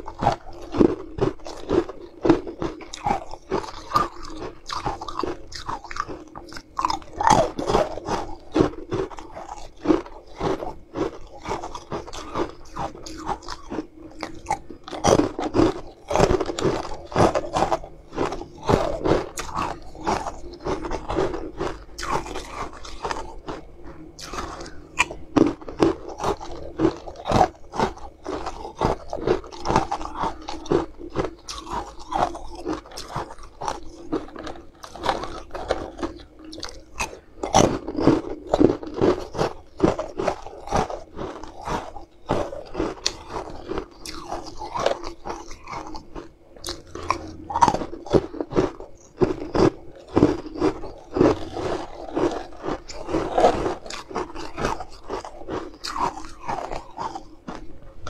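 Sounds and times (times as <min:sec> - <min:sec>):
crunching and chewing ice: 0:00.0 - 0:58.0.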